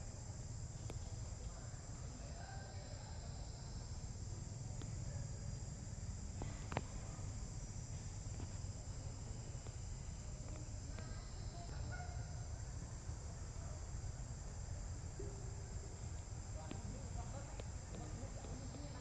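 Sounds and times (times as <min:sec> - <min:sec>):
high-pitched insect chorus: 0:00.0 - 0:19.0
faint chirps: 0:00.1 - 0:19.0.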